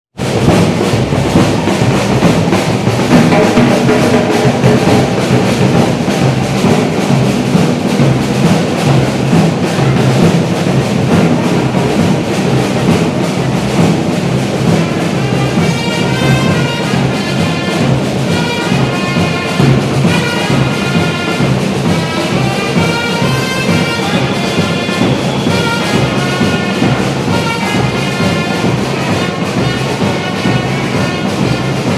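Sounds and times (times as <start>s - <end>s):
samba drums playing: 0.1s - 31.9s.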